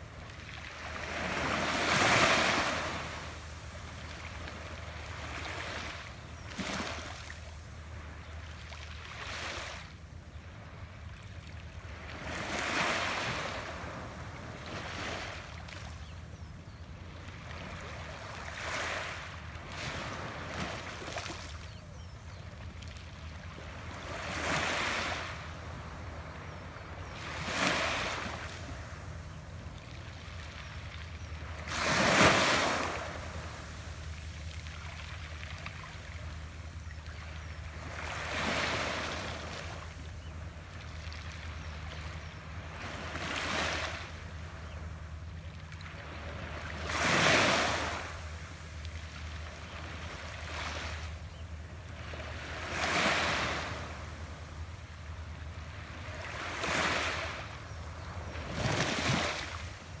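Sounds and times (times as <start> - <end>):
waves breaking on beach: 0.0 - 7.7, 11.9 - 15.9, 17.3 - 21.8, 23.5 - 29.3, 30.0 - 44.3, 45.7 - 51.2, 51.9 - 54.6, 55.7 - 60.0.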